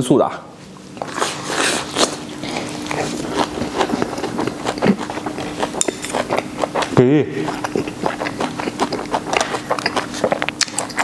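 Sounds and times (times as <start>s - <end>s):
chewing crisp cabbage: 0.8s - 11.0s.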